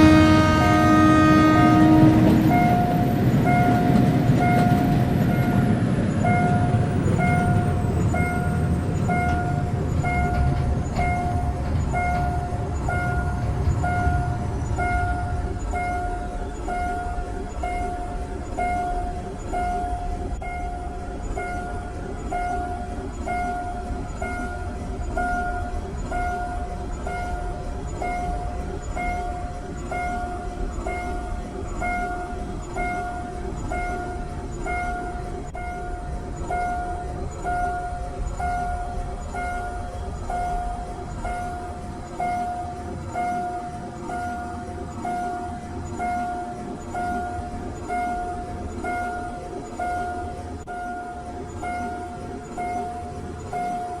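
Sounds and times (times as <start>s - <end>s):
passing train rumble: 0.0s - 54.0s.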